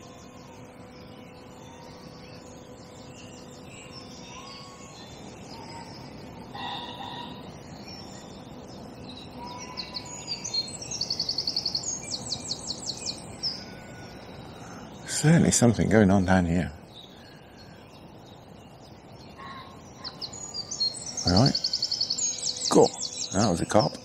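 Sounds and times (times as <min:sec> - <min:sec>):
birds chirping: 0:00.0 - 0:24.0
fast high bird trill: 0:00.0 - 0:24.0.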